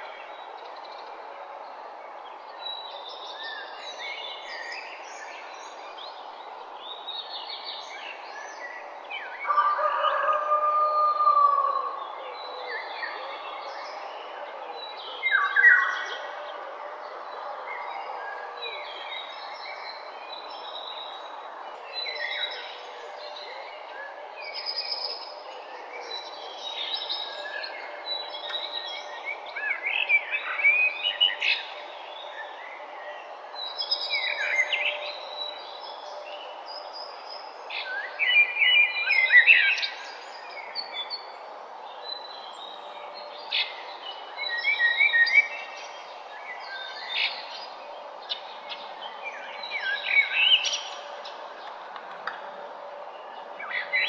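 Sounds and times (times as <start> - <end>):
songbirds chirping and trilling: 0.0 - 54.0
steady background noise: 0.0 - 54.0.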